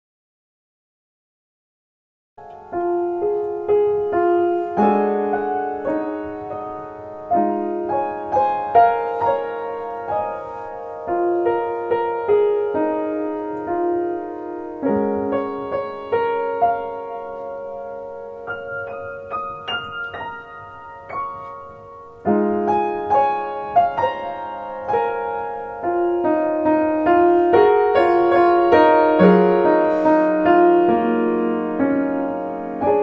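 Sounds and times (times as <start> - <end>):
gentle piano music: 2.4 - 33.0.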